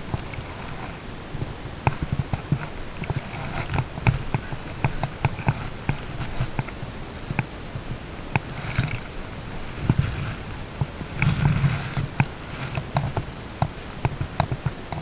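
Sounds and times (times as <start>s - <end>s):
fly line rustling: 0.0s - 15.0s.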